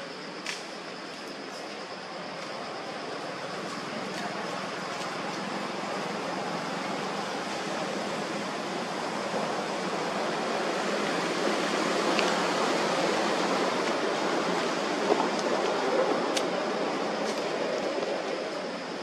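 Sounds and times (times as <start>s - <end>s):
outdoor rushing noise: 2.3s - 19.0s.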